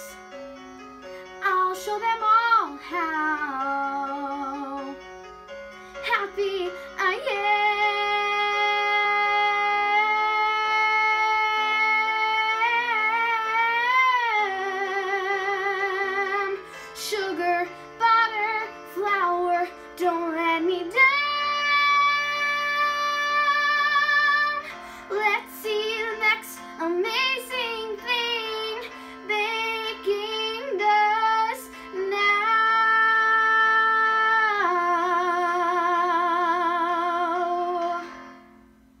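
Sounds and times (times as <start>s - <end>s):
backing track music: 0.0s - 39.0s
girl singing: 1.4s - 5.0s, 6.0s - 38.2s.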